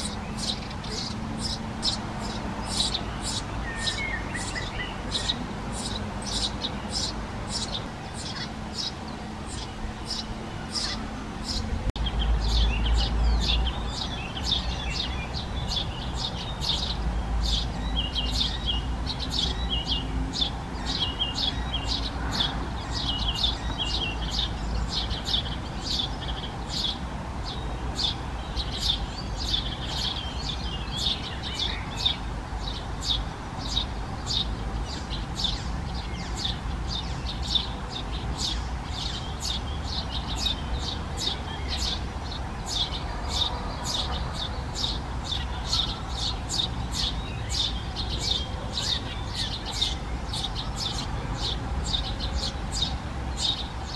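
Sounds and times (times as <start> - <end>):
nestlings chirping: 0.0 - 53.9.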